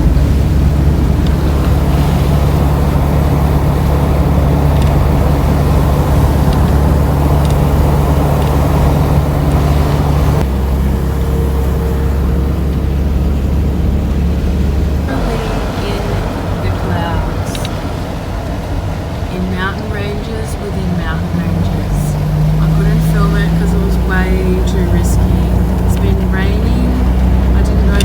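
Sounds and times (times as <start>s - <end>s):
van engine and road noise: 0.0s - 28.0s.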